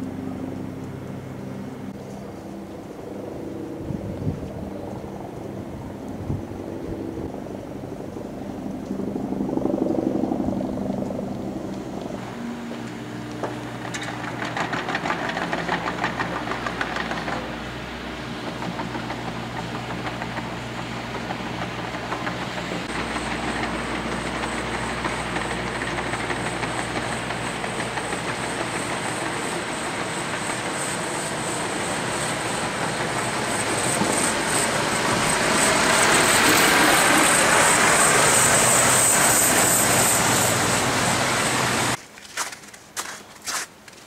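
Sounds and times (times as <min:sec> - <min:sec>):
road traffic passing: 0:00.0 - 0:06.0, 0:06.7 - 0:44.0.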